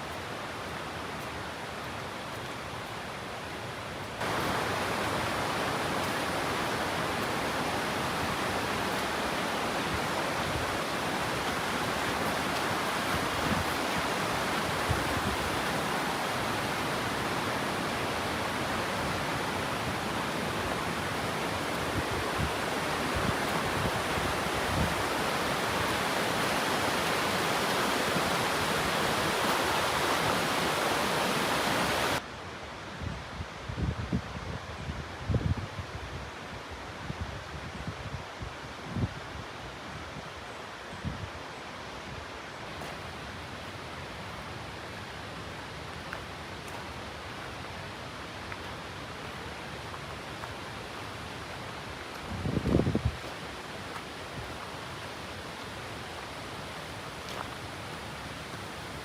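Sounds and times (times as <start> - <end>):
waterfall rushing: 0.0 - 32.2, 41.6 - 59.0.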